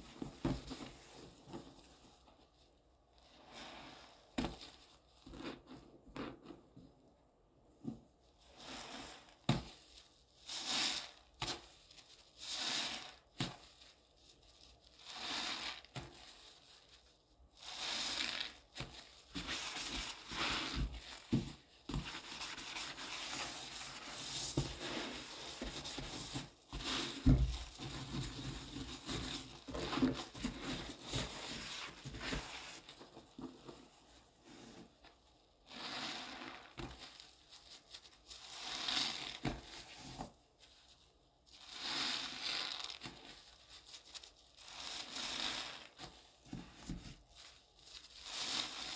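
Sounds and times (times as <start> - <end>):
sponge squishing through foamy paste: 0.0 - 6.7, 8.1 - 48.9.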